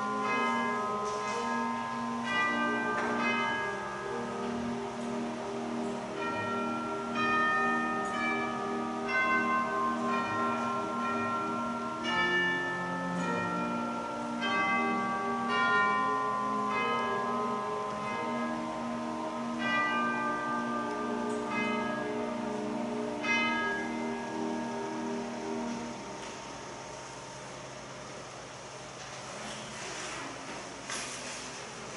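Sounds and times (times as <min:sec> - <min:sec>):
church bells chiming a tune: 0:00.0 - 0:28.1.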